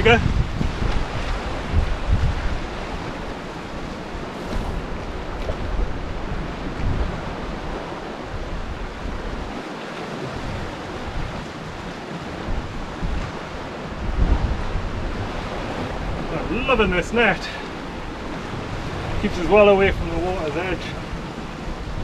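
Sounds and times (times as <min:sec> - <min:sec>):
sea washing around rocks: 0:00.0 - 0:22.0
wind buffeting microphone: 0:00.0 - 0:22.0.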